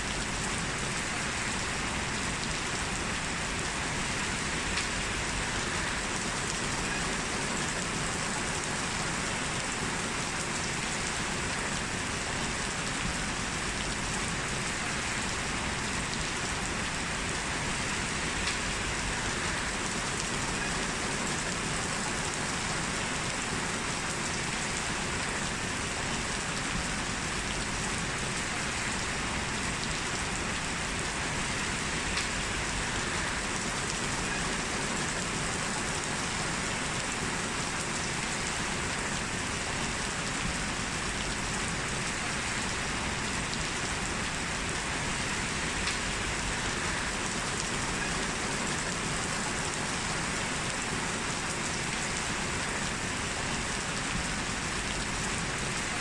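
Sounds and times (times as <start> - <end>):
heavy rain on a street: 0.0 - 56.0.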